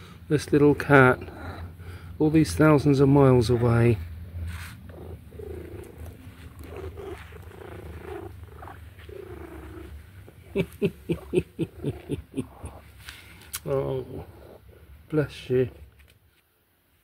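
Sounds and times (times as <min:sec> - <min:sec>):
cat purring: 0:00.0 - 0:12.9, 0:13.6 - 0:16.0.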